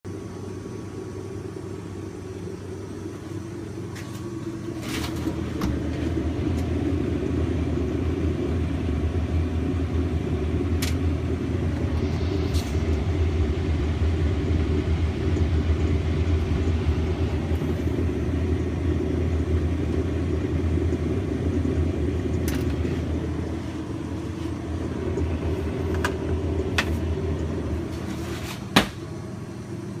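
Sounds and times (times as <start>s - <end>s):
refrigeration unit humming: 0.0s - 30.0s.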